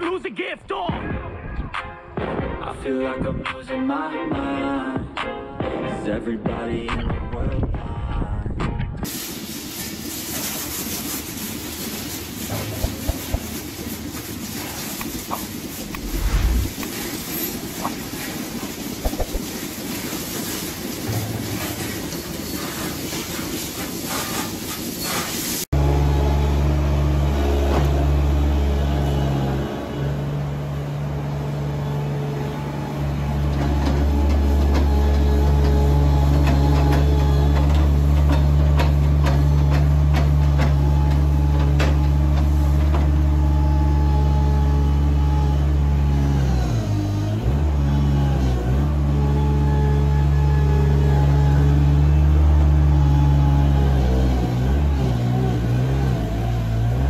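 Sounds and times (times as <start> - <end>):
loader engine running: 9.2 - 25.0, 25.8 - 57.0.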